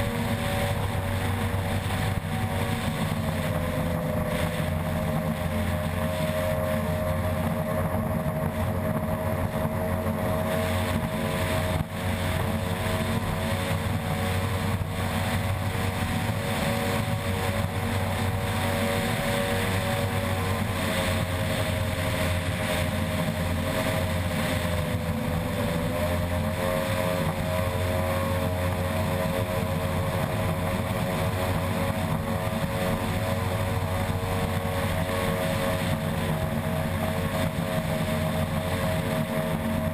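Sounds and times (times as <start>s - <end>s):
rushing wind and water: 0.0s - 39.9s.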